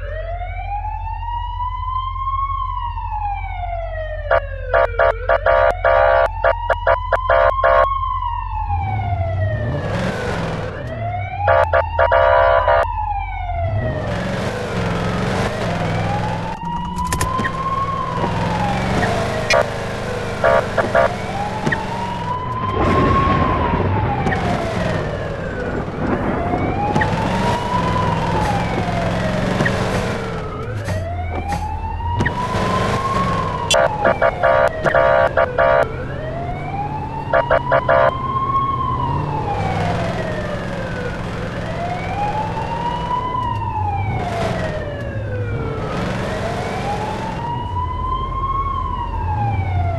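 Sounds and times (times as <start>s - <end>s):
engine and road noise: 0.0s - 49.9s
police siren wailing: 0.0s - 49.9s
short rapid siren blasts: 0.0s - 49.9s.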